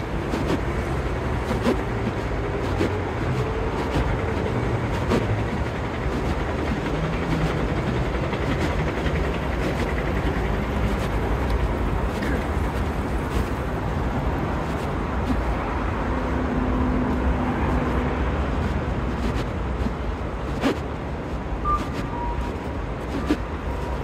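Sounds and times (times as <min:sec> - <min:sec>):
moving train rumble: 0:00.0 - 0:24.0.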